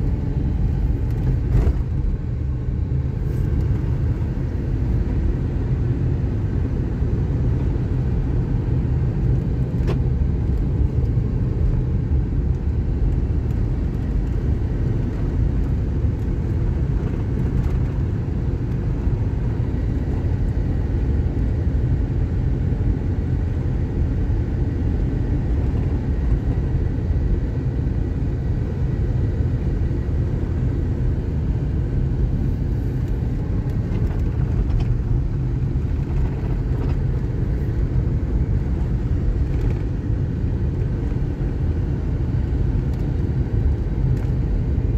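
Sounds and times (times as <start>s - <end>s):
car driving on road: 0.0s - 44.9s.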